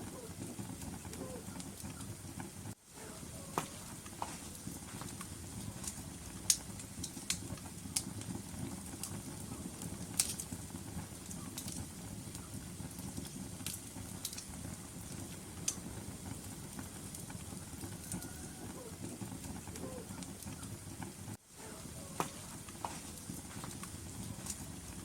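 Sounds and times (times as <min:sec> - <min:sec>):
fire crackling and popping: 0:00.0 - 0:25.0
log fire rumbling: 0:00.0 - 0:25.0.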